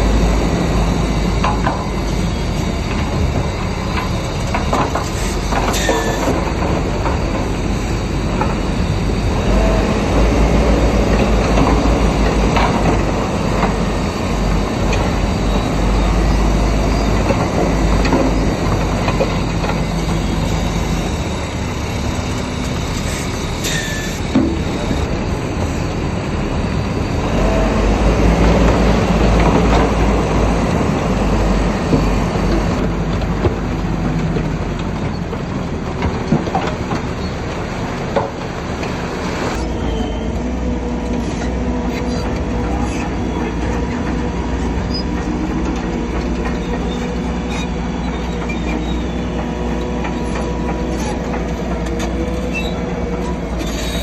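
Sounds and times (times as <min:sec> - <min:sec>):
bulldozer diesel engine: 0:00.0 - 0:54.0
steel tracks clanking and squealing: 0:00.0 - 0:54.0.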